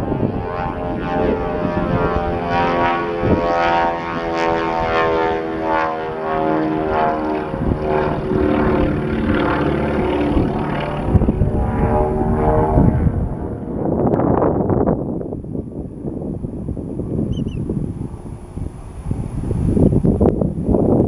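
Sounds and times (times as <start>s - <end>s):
propeller aircraft engines droning: 0.0s - 21.0s.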